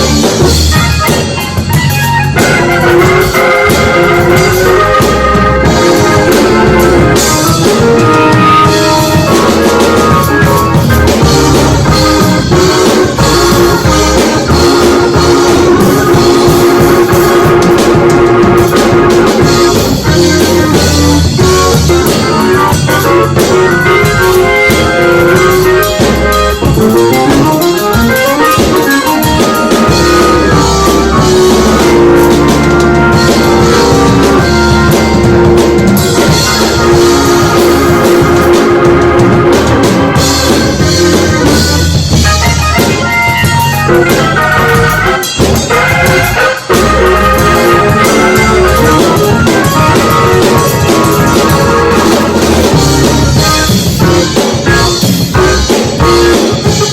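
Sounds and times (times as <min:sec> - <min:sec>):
instrumental band music: 0:00.0 - 0:56.9.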